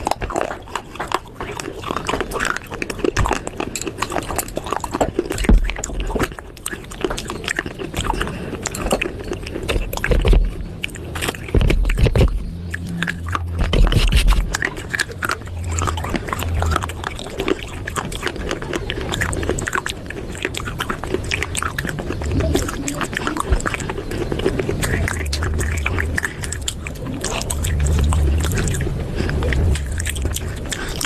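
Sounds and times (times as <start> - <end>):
chewing and crunching: 0.0 - 31.0.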